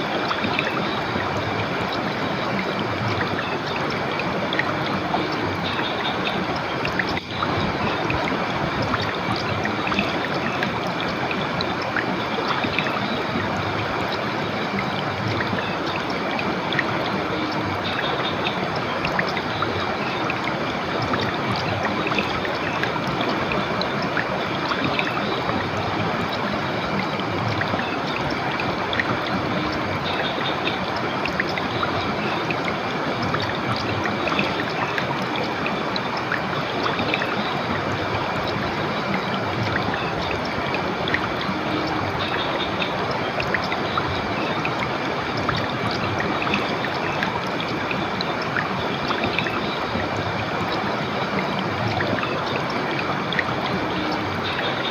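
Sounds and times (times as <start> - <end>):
river water flowing over rocks: 0.0 - 54.9.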